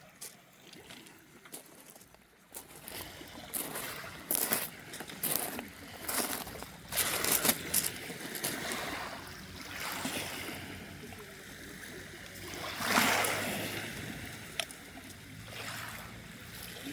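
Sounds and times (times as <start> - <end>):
small waves lapping shoreline: 0.0 - 16.9.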